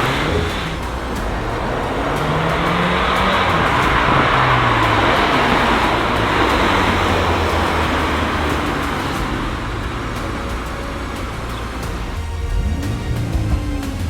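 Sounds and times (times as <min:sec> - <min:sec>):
car engine and exhaust: 0:00.0 - 0:14.0
tyre and road noise: 0:00.0 - 0:14.0.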